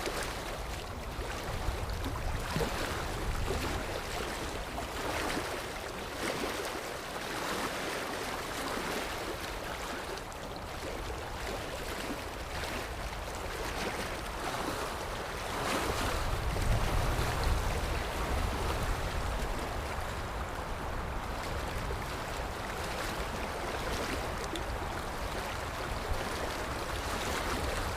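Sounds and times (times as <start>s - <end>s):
sea waves surging and washing: 0.0s - 27.9s.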